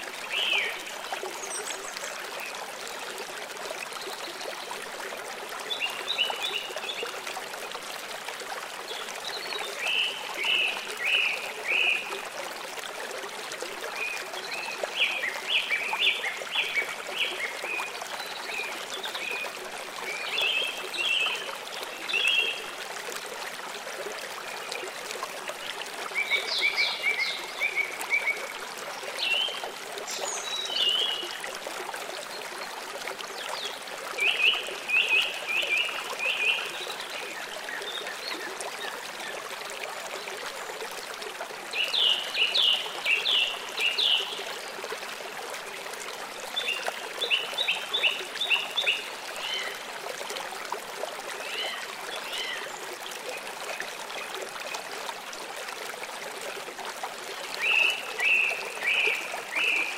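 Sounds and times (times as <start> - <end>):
stream running: 0.0 - 59.9.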